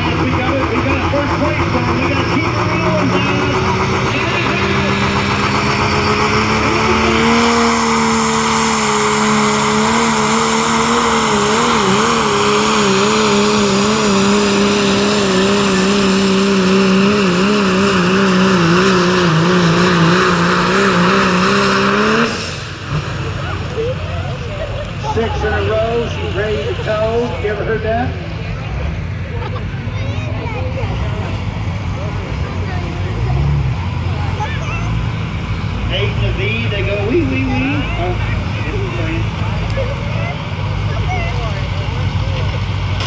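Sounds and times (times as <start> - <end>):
diesel pickup engine at high revs: 0.0 - 43.0
turbo and exhaust rush: 0.0 - 43.0.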